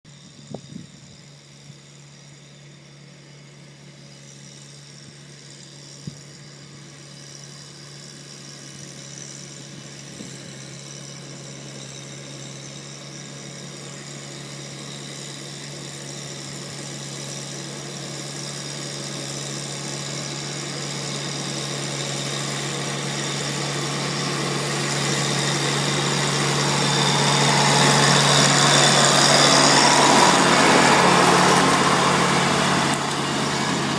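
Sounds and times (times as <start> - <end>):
mower engine running: 0.1 - 33.9.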